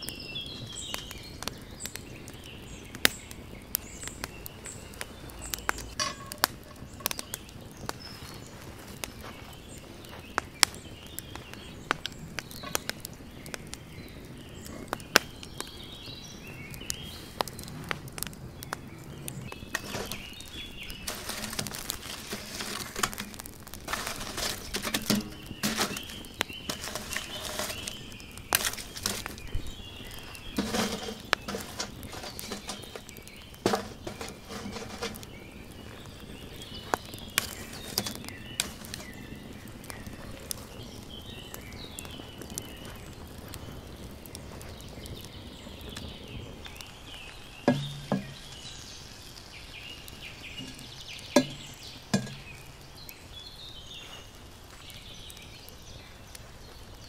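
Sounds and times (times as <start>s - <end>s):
birds chirping faintly: 0.0s - 57.0s
wood fire crackling and popping: 0.0s - 57.0s.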